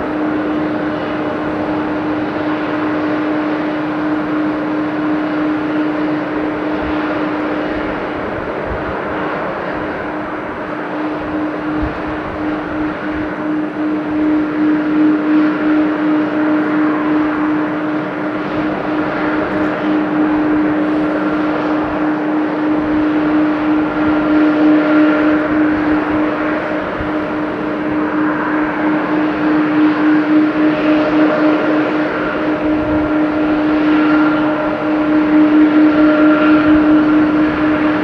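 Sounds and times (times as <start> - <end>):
jet engine noise: 0.0 - 38.0.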